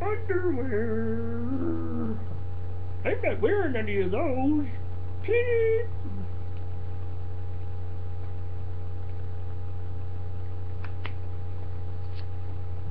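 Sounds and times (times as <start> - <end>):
electrical hum: 0.0 - 12.9.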